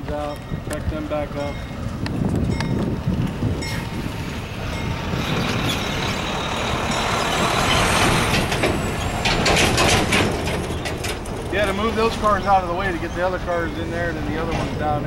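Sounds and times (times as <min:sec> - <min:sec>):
trailer rattling: 0:00.0 - 0:15.0
truck driving past: 0:02.9 - 0:15.0.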